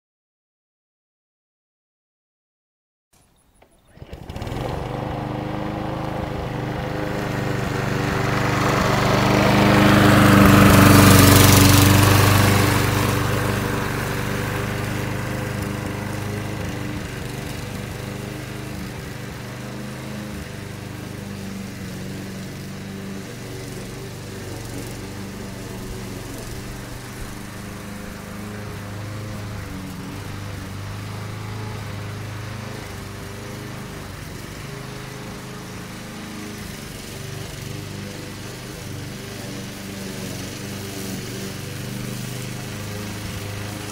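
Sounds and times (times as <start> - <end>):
lawn mower engine running: 3.4 - 43.9.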